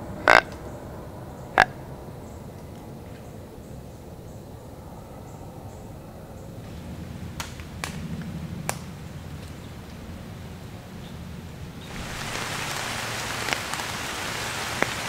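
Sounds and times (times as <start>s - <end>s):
faint low drone: 0.0s - 13.3s.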